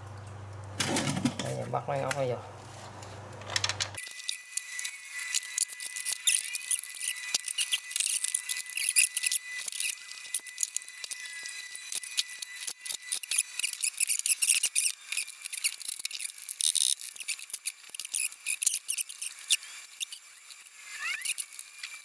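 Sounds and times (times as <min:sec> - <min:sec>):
cordless power tool whirr: 0:02.6 - 0:22.0.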